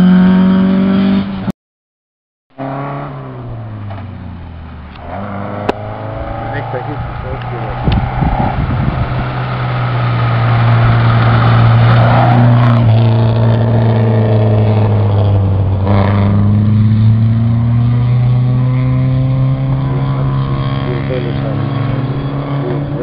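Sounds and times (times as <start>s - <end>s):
rally car engine at high revs: 0.0s - 1.5s, 2.6s - 4.0s, 4.9s - 23.0s.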